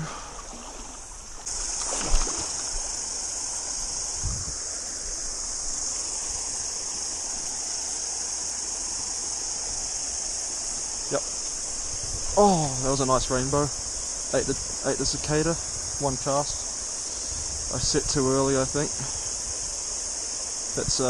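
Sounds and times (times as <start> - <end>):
cicadas buzzing: 0.0 - 21.0
small stream rushing: 0.0 - 21.0.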